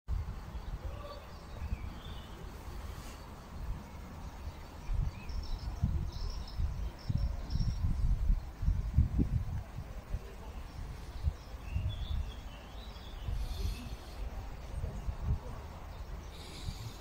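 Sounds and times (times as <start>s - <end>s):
birds chirping: 0.1s - 17.0s
wind on microphone: 0.1s - 17.0s.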